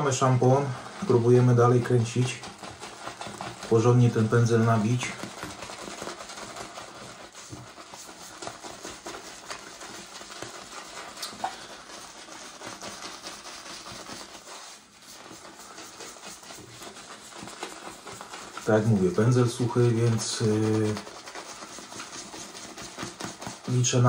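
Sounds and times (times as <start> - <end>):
shaving brush scratching soap: 0.0 - 24.0.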